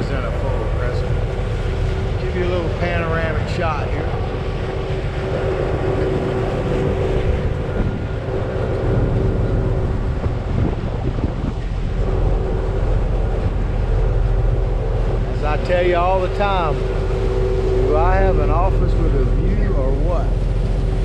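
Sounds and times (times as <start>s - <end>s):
boat engines droning: 0.0s - 21.0s
wind buffeting microphone: 0.0s - 21.0s.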